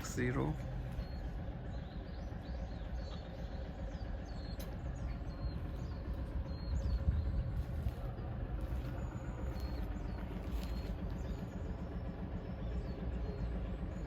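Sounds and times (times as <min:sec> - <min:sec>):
low rumble: 0:00.0 - 0:14.0
small birds chirping: 0:00.0 - 0:14.0.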